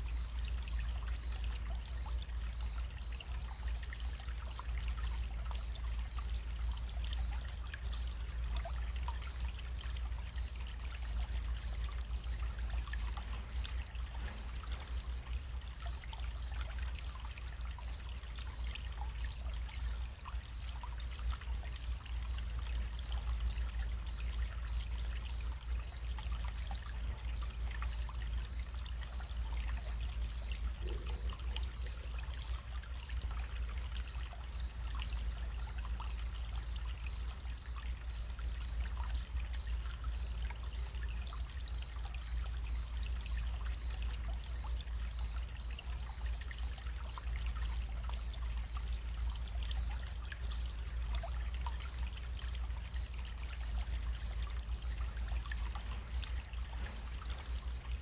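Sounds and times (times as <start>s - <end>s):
low steady rumble: 0.0s - 58.0s
stream babbling: 0.0s - 58.0s.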